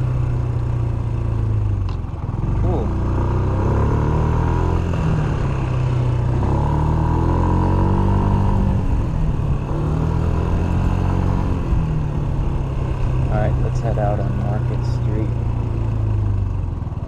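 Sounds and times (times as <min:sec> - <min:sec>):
scooter engine running: 0:00.0 - 0:06.9, 0:08.3 - 0:17.0.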